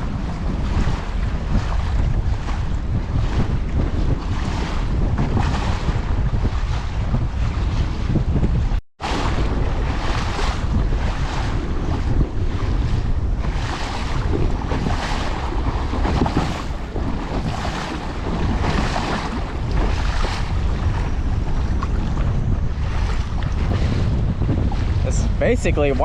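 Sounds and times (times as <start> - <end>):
choppy water splashing: 0.0 - 26.0
wind buffeting microphone: 0.0 - 26.0.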